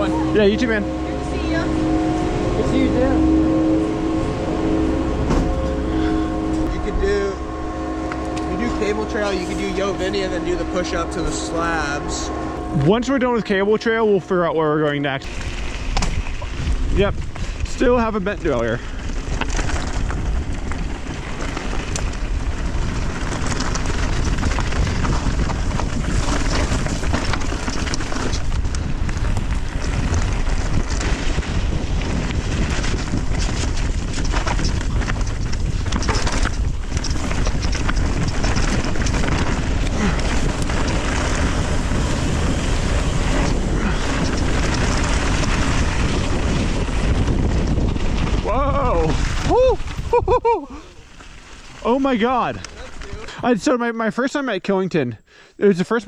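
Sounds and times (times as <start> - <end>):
wind buffeting microphone: 0.0 - 53.4
tyre noise on dirt trail: 0.0 - 56.0.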